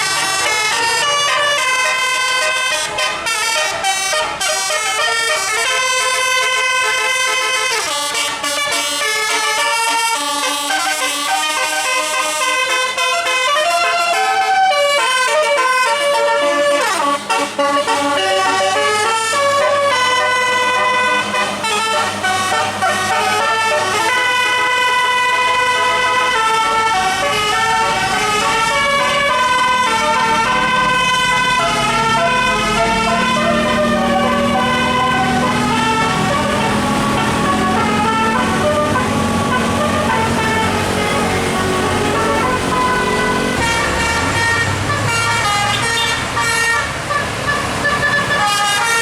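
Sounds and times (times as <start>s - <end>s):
bus engine running: 0.0s - 49.0s
multi-tone bus horns playing a tune: 0.0s - 49.0s.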